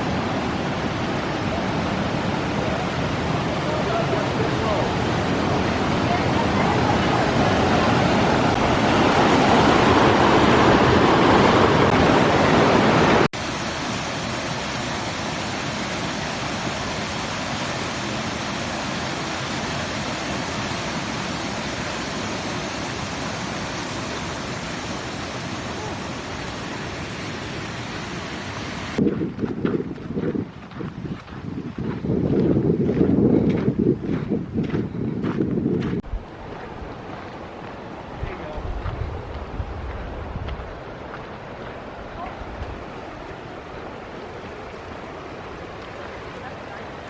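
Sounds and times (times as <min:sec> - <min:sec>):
creek water rushing over rocks: 0:00.0 - 0:30.1, 0:36.0 - 0:47.0.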